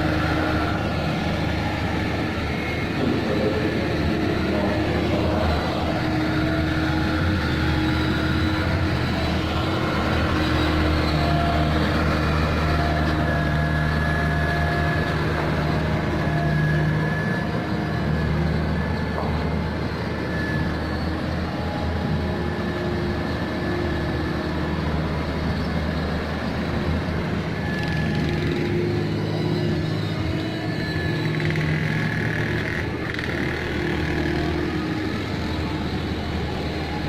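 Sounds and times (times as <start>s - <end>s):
heavy diesel engine droning: 0.0s - 37.0s.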